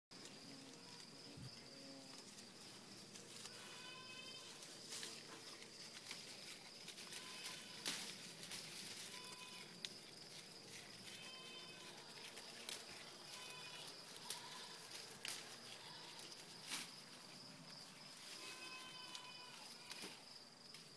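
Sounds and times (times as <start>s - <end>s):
high insect drone: 0.2s - 20.9s
goat rustling leafy weeds: 2.1s - 20.9s.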